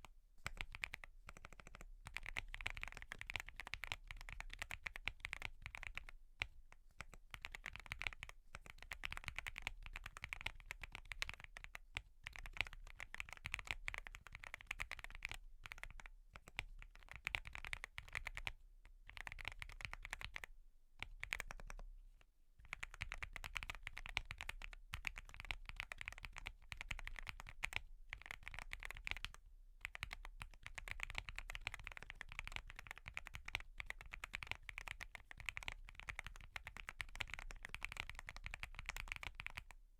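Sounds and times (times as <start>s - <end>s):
mechanical keyboard typing: 0.5s - 18.5s, 19.1s - 21.8s, 22.7s - 39.8s.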